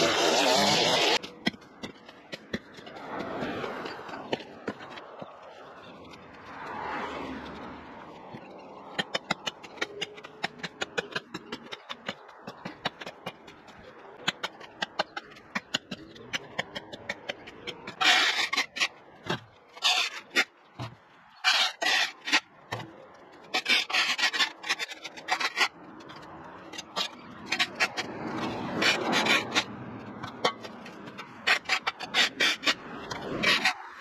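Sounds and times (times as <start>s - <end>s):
rasping scrapes: 0.0s - 5.0s, 9.0s - 34.0s.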